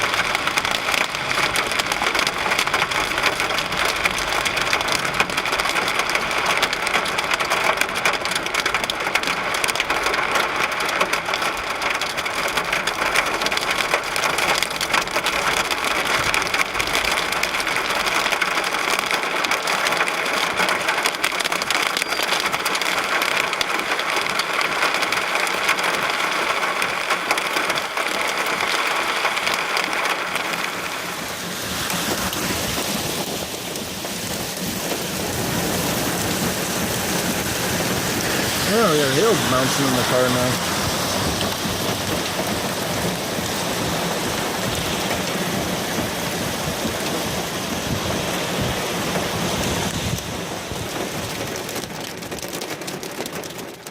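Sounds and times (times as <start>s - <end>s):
heavy rain on car roof: 0.0s - 53.9s.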